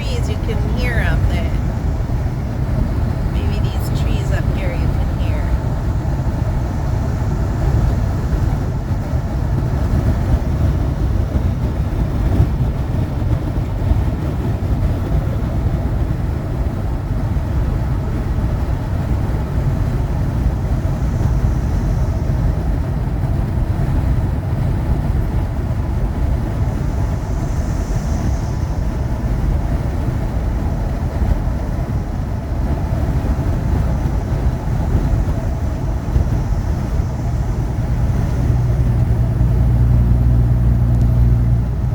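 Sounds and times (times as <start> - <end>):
road and engine rumble: 0.0 - 41.9.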